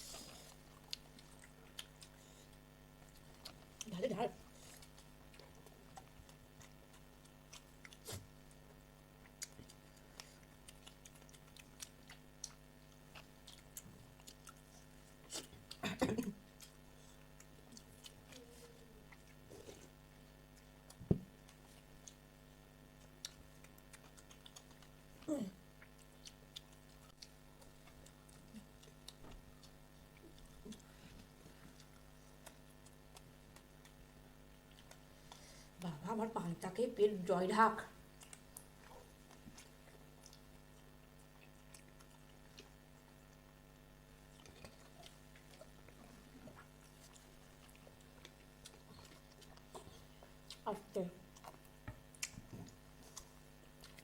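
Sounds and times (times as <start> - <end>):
chewing and eating sounds: 0.0 - 54.0
low steady hum: 0.0 - 54.0.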